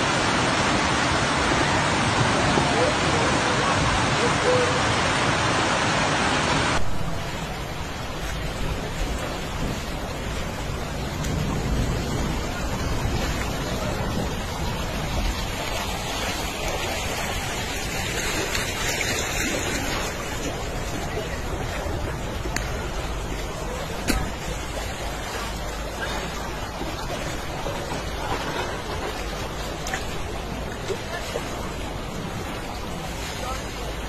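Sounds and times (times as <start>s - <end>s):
floodwater rushing: 0.0s - 34.0s
shallow water running over ground: 0.0s - 34.0s.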